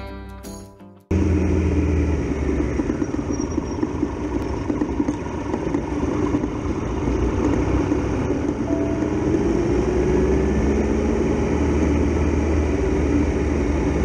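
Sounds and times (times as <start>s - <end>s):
motorcycle engine running: 1.1s - 14.0s
wind and road noise: 1.1s - 14.0s.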